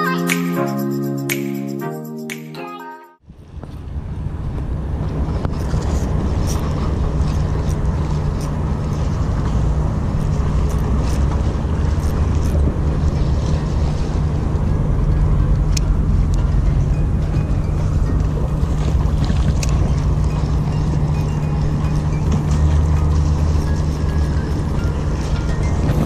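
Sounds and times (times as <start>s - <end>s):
wind buffeting microphone: 3.3s - 26.0s.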